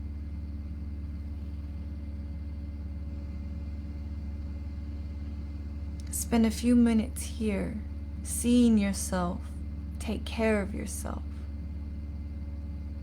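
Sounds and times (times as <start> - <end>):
faint constant tone: 0.0 - 13.0
steady low hum: 0.0 - 13.0.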